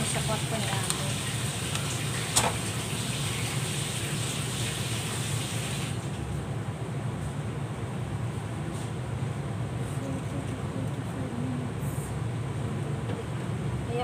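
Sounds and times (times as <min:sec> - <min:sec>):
low kitchen hum: 0:00.0 - 0:14.0.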